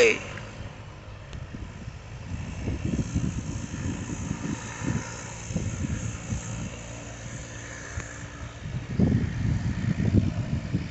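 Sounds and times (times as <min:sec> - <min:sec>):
distant jet engines rushing: 0:00.0 - 0:10.9
wind gusting on microphone: 0:00.0 - 0:10.9.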